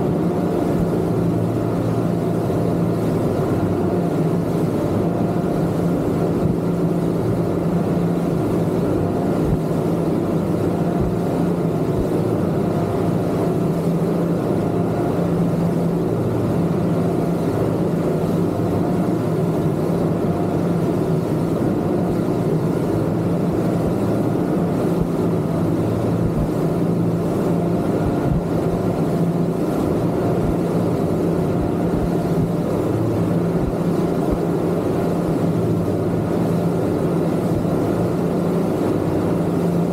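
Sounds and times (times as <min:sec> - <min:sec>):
outboard motors droning: 0:00.0 - 0:39.9.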